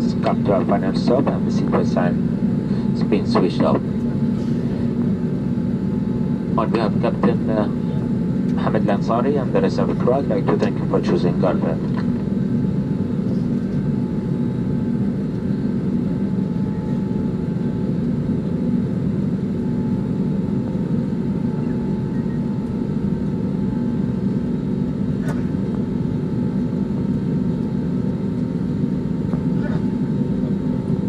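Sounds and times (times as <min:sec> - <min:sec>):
jet cabin engine drone: 0:00.0 - 0:31.0.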